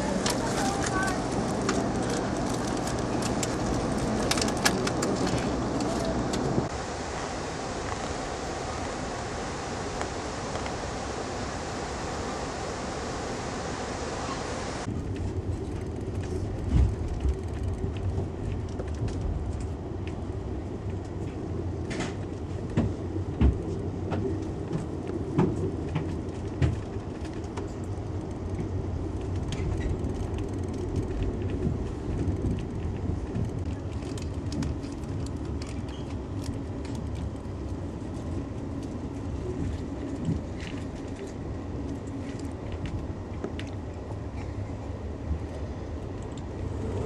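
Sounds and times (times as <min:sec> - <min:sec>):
train rumbling on track: 0:00.0 - 0:47.0.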